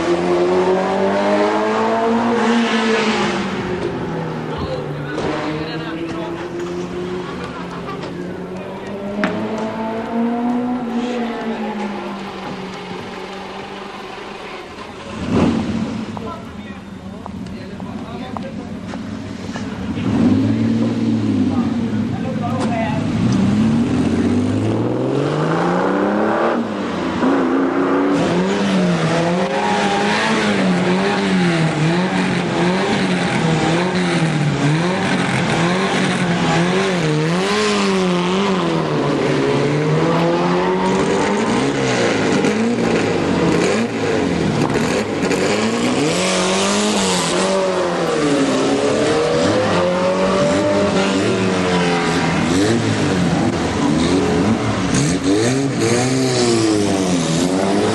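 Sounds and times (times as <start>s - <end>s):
sports car accelerating away: 0.0s - 16.3s, 18.9s - 57.9s
racing car engines revving: 0.0s - 57.9s.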